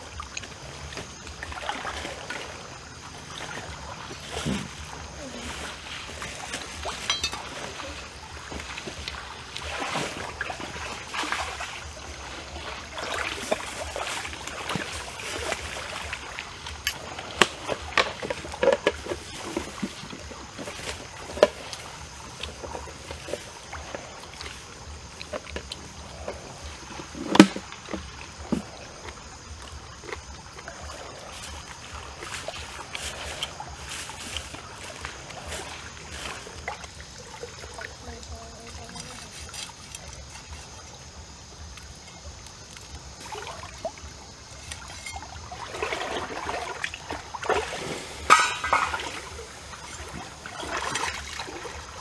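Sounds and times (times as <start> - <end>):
water lapping at bank: 0.0 - 52.0.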